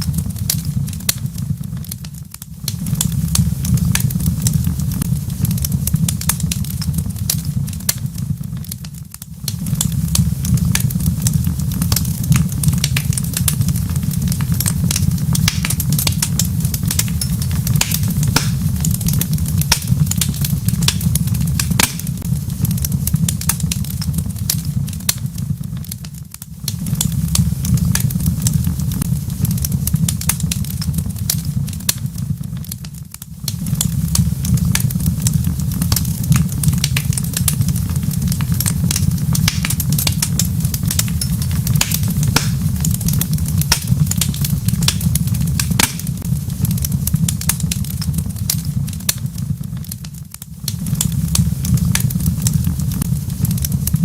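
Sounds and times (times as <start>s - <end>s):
low rumble: 0.0s - 32.7s, 33.4s - 49.9s, 50.5s - 54.0s
wood fire crackling and popping: 0.0s - 54.0s.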